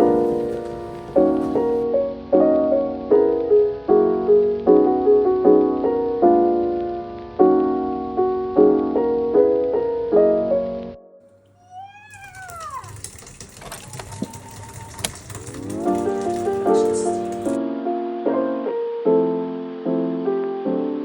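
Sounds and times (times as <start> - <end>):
piano playing soft chords: 0.0 - 11.5, 13.9 - 21.0.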